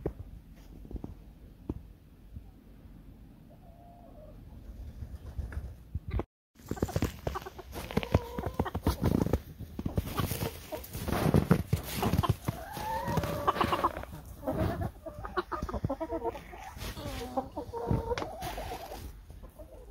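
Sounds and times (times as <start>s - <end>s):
chickens clucking and calling: 2.4s - 5.5s, 6.6s - 19.9s.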